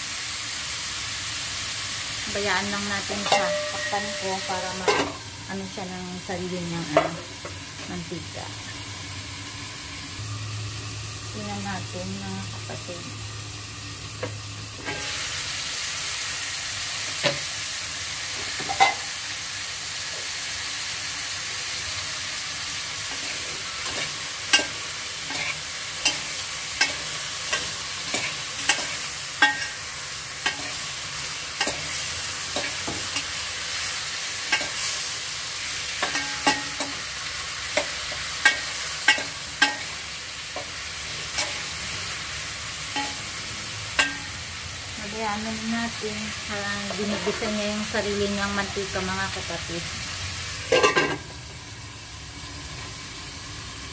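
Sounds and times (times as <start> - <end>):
chicken sizzling in a pot: 0.0 - 53.9.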